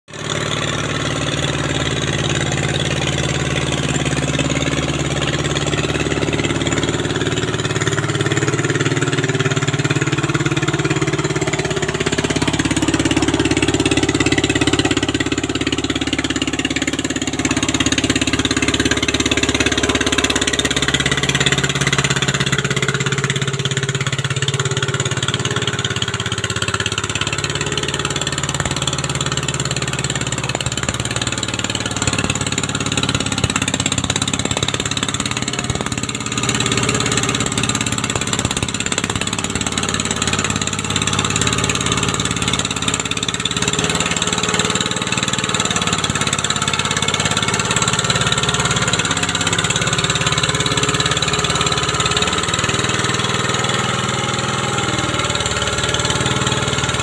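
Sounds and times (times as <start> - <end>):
small tractor engine running: 0.0 - 57.0.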